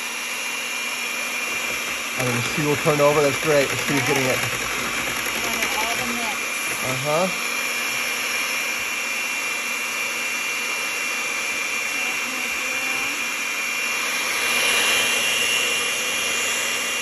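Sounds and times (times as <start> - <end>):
electric hand mixer whining: 0.0 - 17.0.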